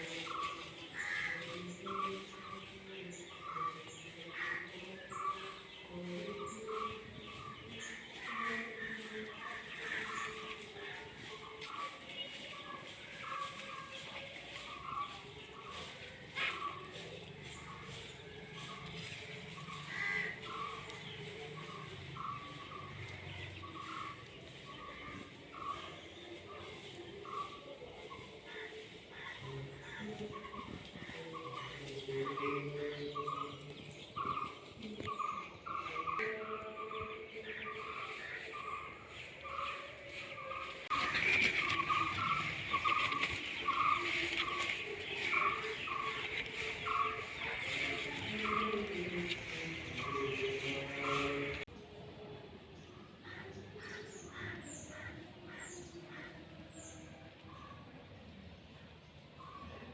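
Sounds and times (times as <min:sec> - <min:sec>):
birds calling: 0:00.0 - 0:51.7.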